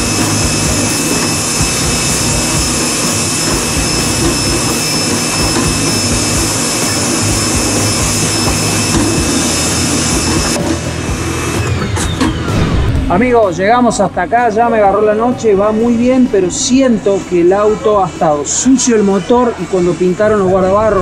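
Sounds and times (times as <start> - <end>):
pressure washer motor hum: 0.0 - 18.7.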